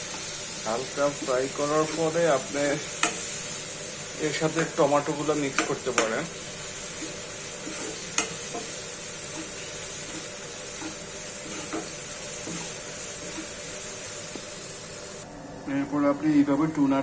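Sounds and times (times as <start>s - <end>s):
spatula scraping a pan: 0.0s - 14.4s
spices sizzling in hot oil: 0.0s - 15.3s.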